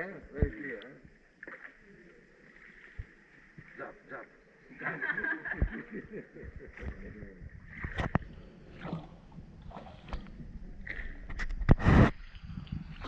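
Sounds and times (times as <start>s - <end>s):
rowboat rowed through water: 0.0s - 13.0s.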